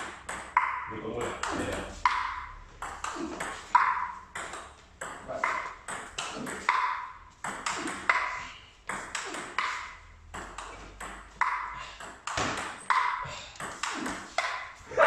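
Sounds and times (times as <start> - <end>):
table tennis ball ticking: 0.0 - 14.7.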